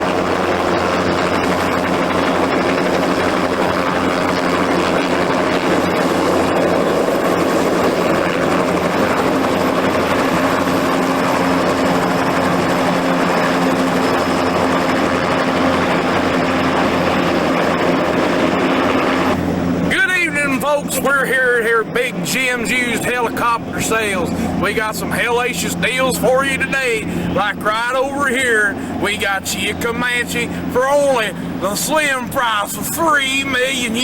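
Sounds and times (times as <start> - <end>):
helicopter engine running: 0.0 - 34.0.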